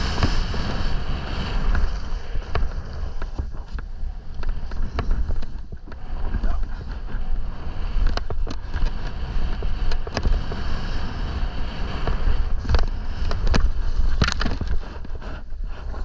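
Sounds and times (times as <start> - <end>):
skis swishing and scraping snow: 0.0 - 16.0
wind buffeting microphone: 0.0 - 16.0.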